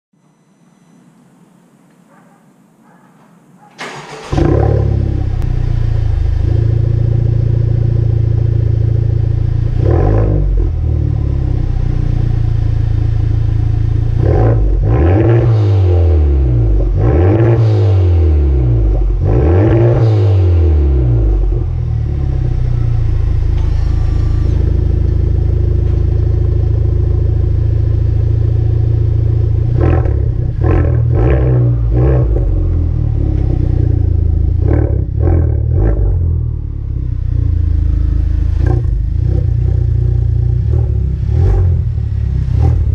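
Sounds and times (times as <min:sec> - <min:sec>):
car exhaust idling and revving: 0:04.2 - 0:42.9.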